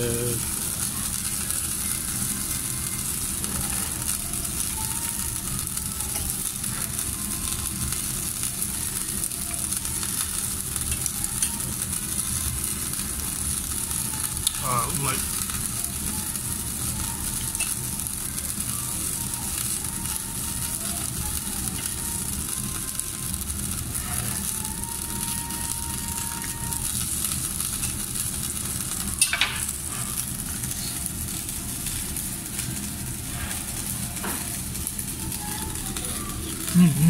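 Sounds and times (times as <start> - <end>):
meat sizzling on a grill: 0.0 - 37.0.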